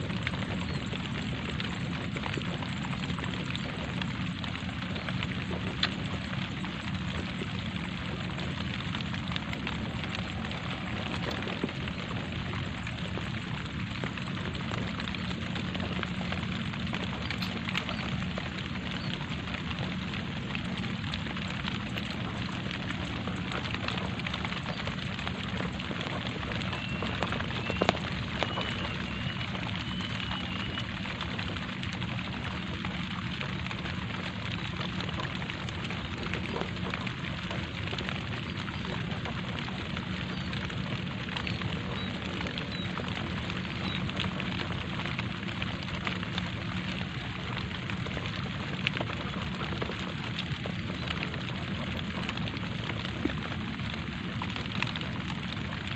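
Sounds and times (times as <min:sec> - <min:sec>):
light rain on leaves: 0:00.0 - 0:55.9.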